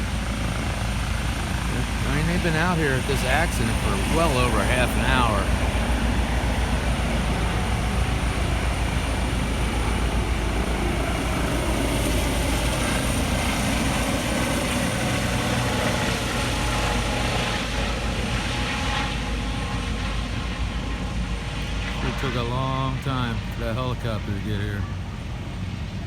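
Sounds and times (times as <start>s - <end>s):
helicopter rotor beating: 0.0s - 26.0s.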